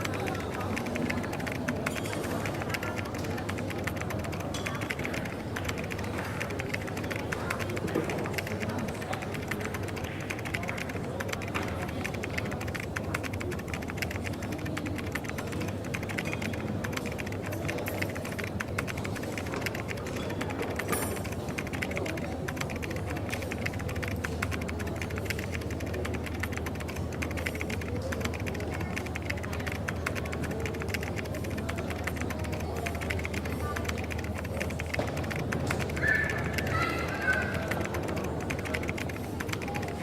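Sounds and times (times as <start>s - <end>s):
small clicks and clatter: 0.0s - 40.0s.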